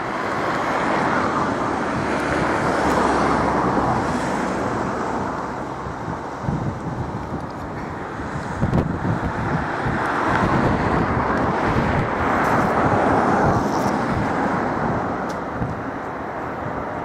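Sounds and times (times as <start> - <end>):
diesel locomotive engine droning: 0.0 - 17.0.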